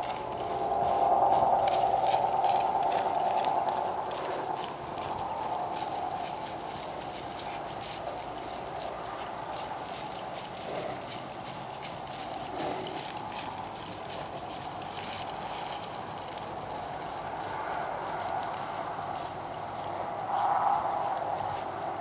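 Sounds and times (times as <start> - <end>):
hoofbeats trotting on grass: 0.0 - 22.0.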